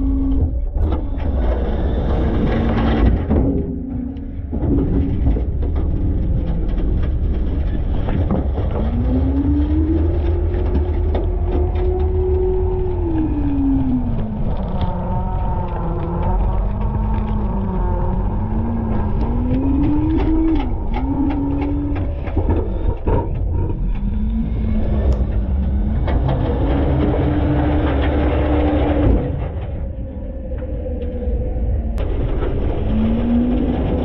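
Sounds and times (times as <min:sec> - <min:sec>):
garbage truck engine revving: 0:00.0 - 0:34.0
clanks and rattles of truck body: 0:00.2 - 0:30.8.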